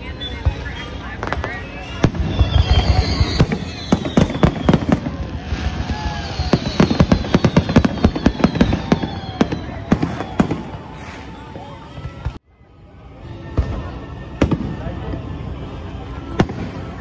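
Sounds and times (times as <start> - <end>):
fireworks bangs and crackles: 0.0 - 12.4, 13.4 - 17.0.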